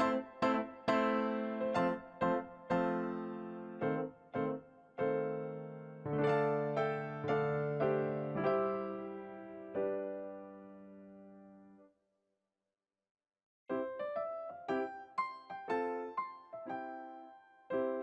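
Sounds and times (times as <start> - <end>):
piano-like keyboard chords: 0.0 - 11.8, 13.7 - 18.0.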